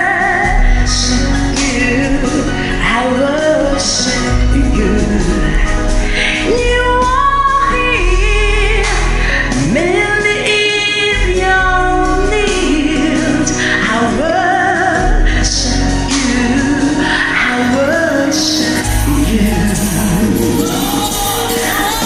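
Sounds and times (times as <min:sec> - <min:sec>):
band accompaniment: 0:00.0 - 0:22.0
woman singing gospel-style: 0:00.0 - 0:22.0.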